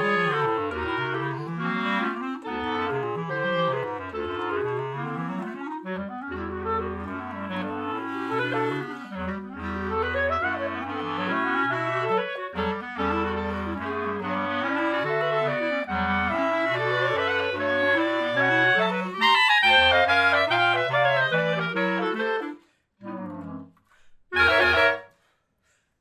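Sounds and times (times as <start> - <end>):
clarinet quartet playing: 0.0 - 22.6, 24.4 - 25.1.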